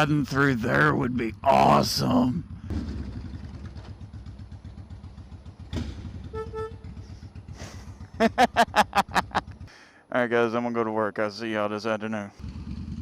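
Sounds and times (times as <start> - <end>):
motorcycle engine rumbling: 0.0 - 10.1, 12.3 - 13.0.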